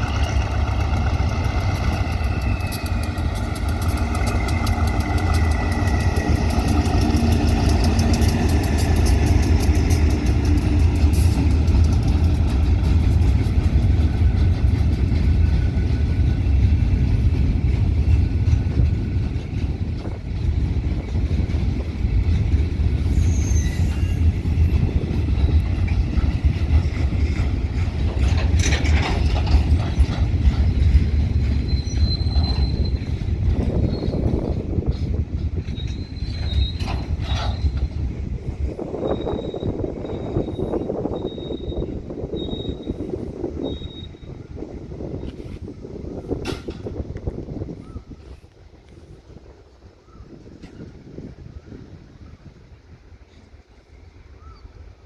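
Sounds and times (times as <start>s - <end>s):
locomotive engine: 0.0s - 47.7s
wagons running on rails: 0.0s - 51.4s
train rumbling past: 0.0s - 55.0s.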